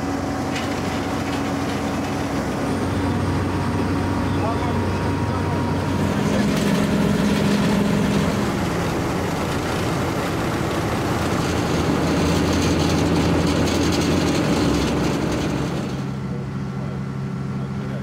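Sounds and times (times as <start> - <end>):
diesel engines droning: 0.0 - 18.0.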